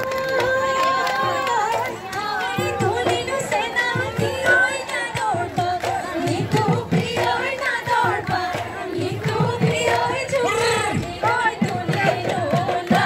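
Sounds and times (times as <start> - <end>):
quick drum beats: 0.0 - 13.0
voices singing: 0.0 - 13.0.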